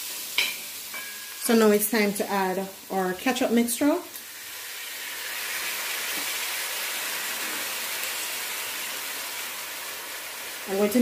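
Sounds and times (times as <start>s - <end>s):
sizzling hiss from hot pot: 0.0s - 11.0s.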